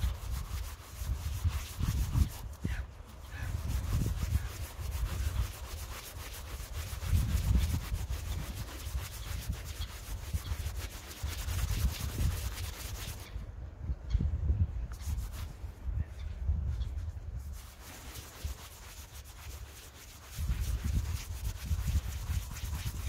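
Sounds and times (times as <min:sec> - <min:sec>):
dry leaves rubbed between palms: 0:00.0 - 0:13.3, 0:14.9 - 0:15.5, 0:17.4 - 0:23.0.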